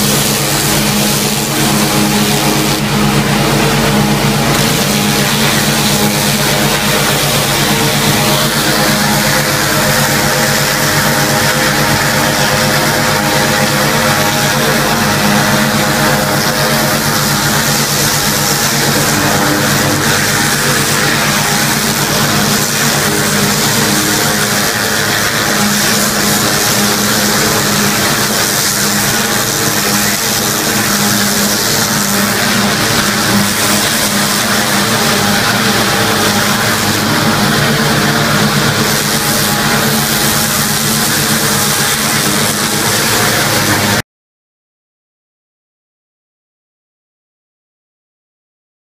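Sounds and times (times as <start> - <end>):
pump motor drone: 0.0 - 44.0
water jet hissing: 0.0 - 44.0.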